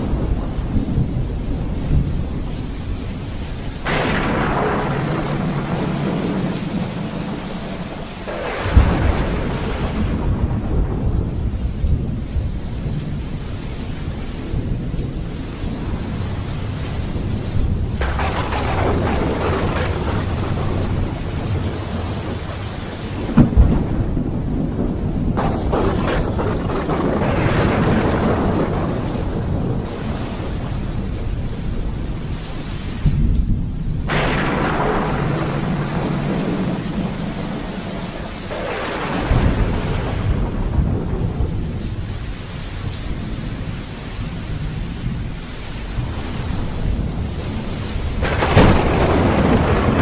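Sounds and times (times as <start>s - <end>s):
low rumble of thunder: 0.0s - 50.0s
rain: 0.0s - 50.0s
sharp thunderclap: 0.0s - 50.0s.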